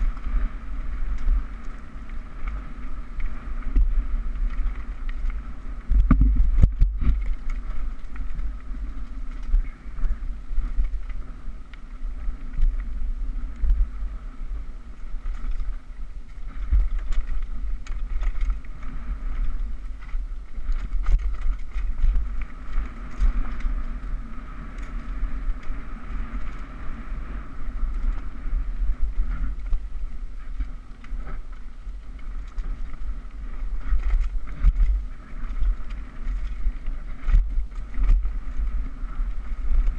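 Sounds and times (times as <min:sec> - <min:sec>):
bike knocking and rattling: 0:00.0 - 0:39.9
tyre noise on dirt: 0:00.0 - 0:39.9
wind buffeting microphone: 0:00.0 - 0:39.9.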